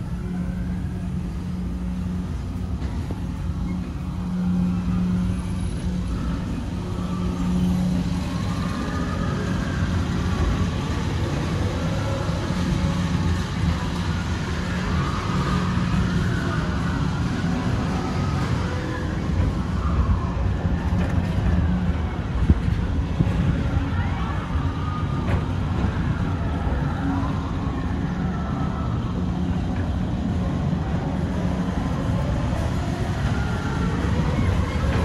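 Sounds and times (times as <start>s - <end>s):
ride car rumbling on track: 0.0s - 35.0s.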